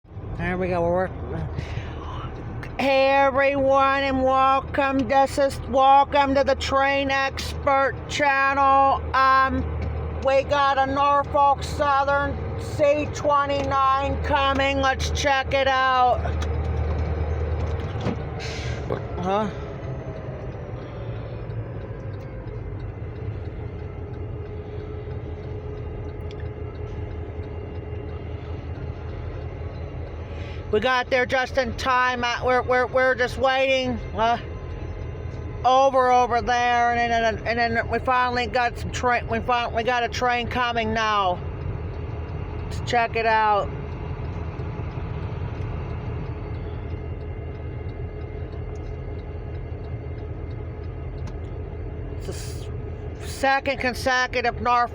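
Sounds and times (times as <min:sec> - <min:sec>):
constant hum: 0:00.1 - 0:54.9
heavy vehicle engine rumble: 0:00.1 - 0:54.9.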